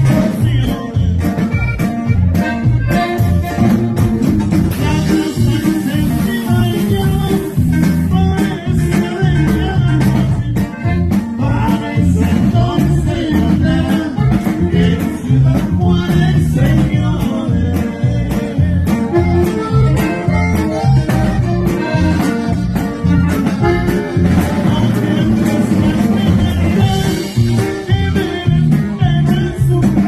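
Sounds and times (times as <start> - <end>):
person singing: 0.0 - 1.6, 4.7 - 30.0
accordion: 0.0 - 30.0
guitar and drums: 0.0 - 30.0.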